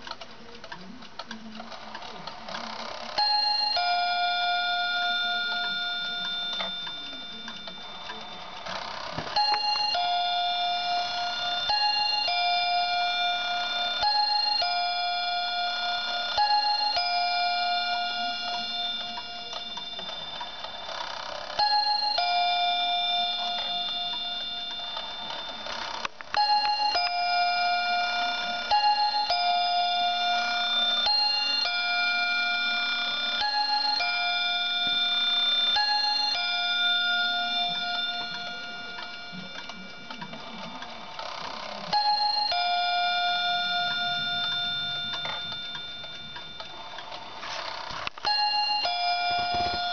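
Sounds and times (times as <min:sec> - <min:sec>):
wall clock chime melody: 0:02.5 - 0:49.9.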